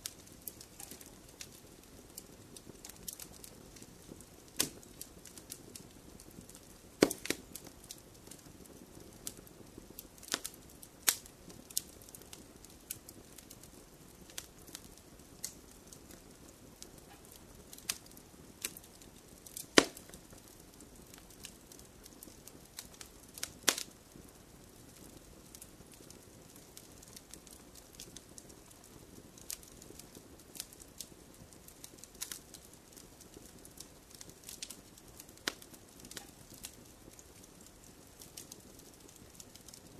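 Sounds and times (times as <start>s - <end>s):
faint hiss of burning fire: 0.0s - 39.9s
wood fire crackling and popping: 0.0s - 39.9s.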